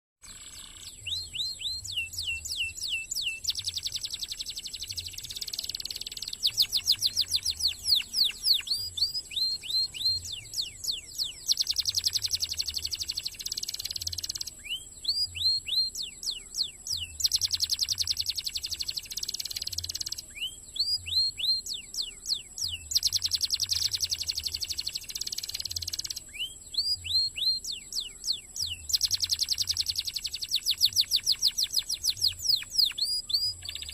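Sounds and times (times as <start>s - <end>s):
canary singing: 0.2s - 33.9s.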